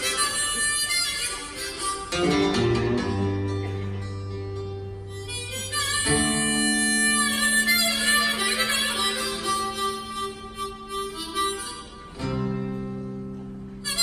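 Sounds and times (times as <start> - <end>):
harmonica playing chords: 0.0 - 14.0.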